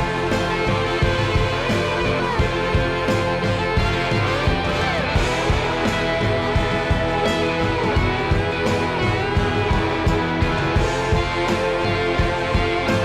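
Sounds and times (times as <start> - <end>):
bending electric guitar notes: 0.0 - 13.0
steady drum beat: 0.0 - 13.0.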